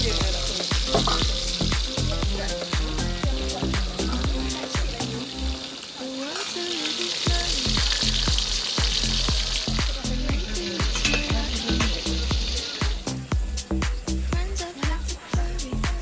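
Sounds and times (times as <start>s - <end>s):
background music with steady beat: 0.0s - 5.8s, 7.2s - 16.0s
food sizzling in a pan: 0.0s - 15.8s.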